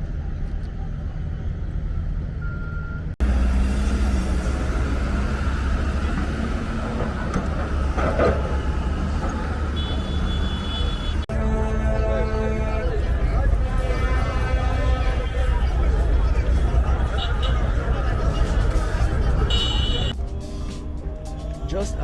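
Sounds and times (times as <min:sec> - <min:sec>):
road traffic engine rumble: 0:00.1 - 0:20.2.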